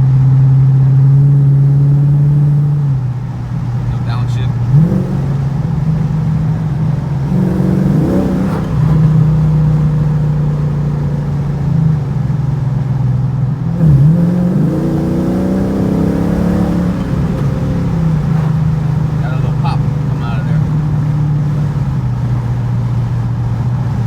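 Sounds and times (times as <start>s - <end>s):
car engine while driving: 0.0s - 24.0s.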